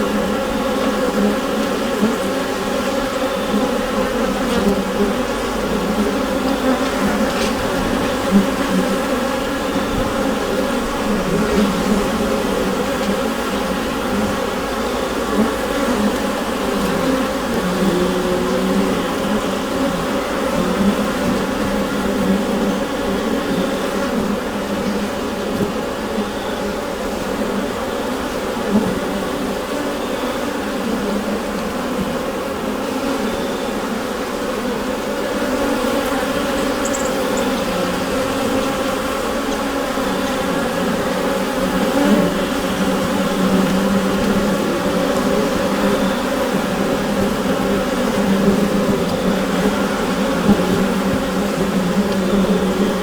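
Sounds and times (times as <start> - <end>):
bees humming in a hive: 0.0 - 53.0.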